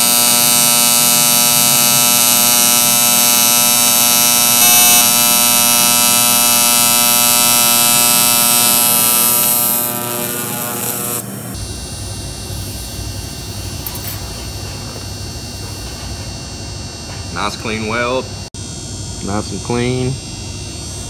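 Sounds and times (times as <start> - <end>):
welding arc buzzing: 0.0 - 18.5.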